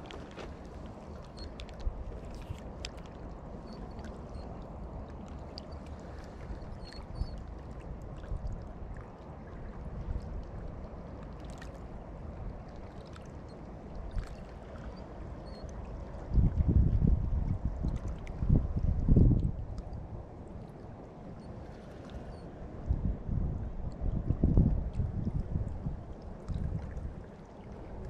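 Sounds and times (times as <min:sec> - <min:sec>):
water lapping: 0:00.0 - 0:16.7, 0:19.4 - 0:22.9, 0:24.9 - 0:28.0
wind rumble on microphone: 0:00.0 - 0:28.0.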